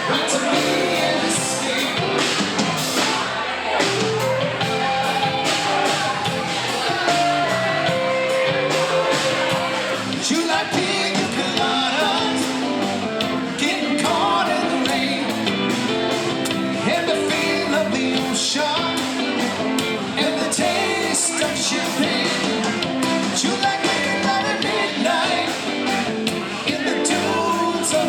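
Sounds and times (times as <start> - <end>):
lead vocal singing: 0.0 - 28.0
soft rock band playing: 0.0 - 28.0.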